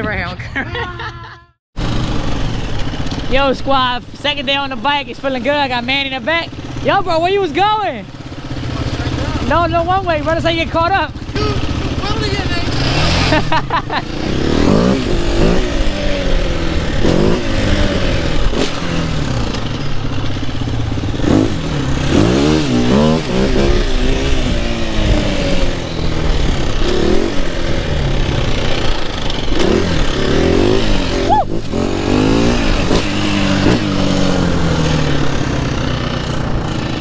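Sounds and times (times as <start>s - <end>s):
dirt bike engine revving: 1.8s - 37.0s.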